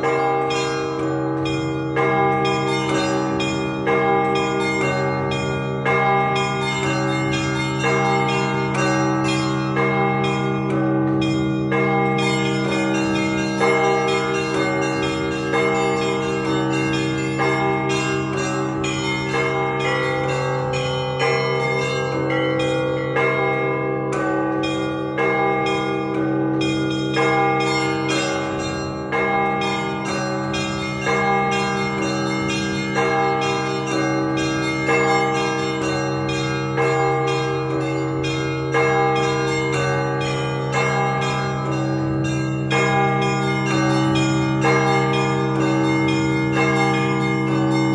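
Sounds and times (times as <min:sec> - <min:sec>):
large bells humming: 0:00.0 - 0:47.9
middle bells striking: 0:00.0 - 0:47.9.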